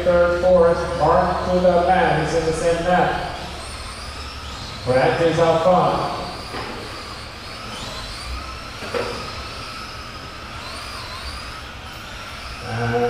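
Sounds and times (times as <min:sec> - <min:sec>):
electric toy truck motors whining: 0:00.0 - 0:13.0.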